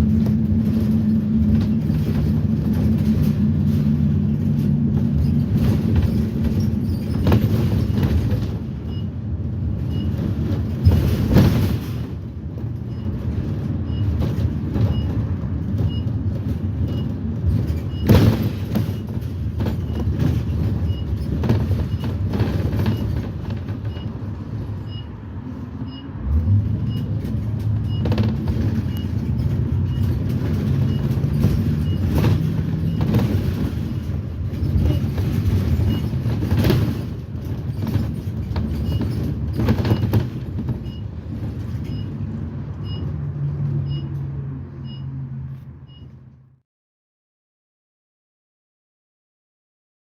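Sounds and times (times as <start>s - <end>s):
body rattles and knocks: 0.0s - 25.0s, 26.3s - 42.7s
bus engine running: 0.0s - 46.6s.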